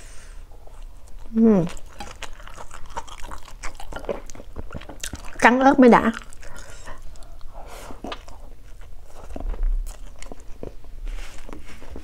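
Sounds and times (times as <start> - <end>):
person chewing rice: 0.5 - 12.0.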